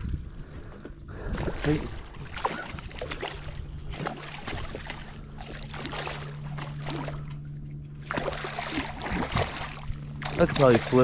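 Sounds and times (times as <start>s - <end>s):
steady low hum: 0.0s - 11.0s
water splashing and dripping: 1.2s - 7.4s, 8.0s - 11.0s.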